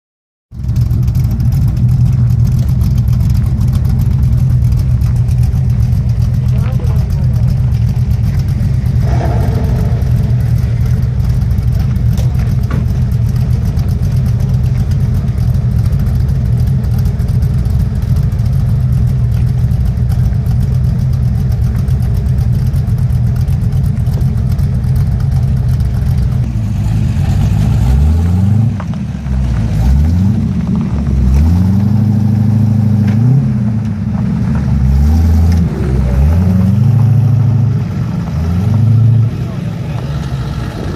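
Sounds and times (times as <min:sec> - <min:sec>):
car engine idling and revving: 0:00.5 - 0:40.9.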